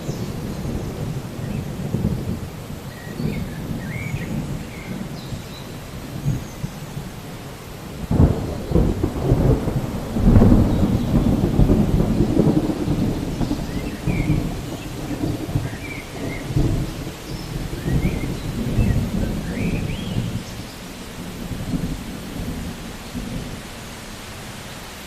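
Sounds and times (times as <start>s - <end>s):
rolling thunder: 0.0s - 24.5s
steady rain: 0.0s - 25.0s.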